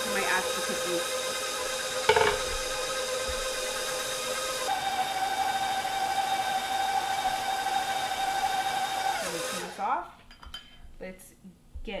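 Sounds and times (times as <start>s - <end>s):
stand mixer motor whining: 0.0s - 9.8s.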